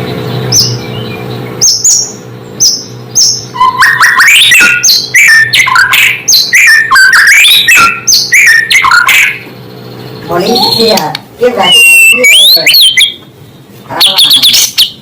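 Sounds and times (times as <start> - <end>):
bird singing whistled notes: 0.0 - 10.9, 11.6 - 13.2, 14.0 - 15.0.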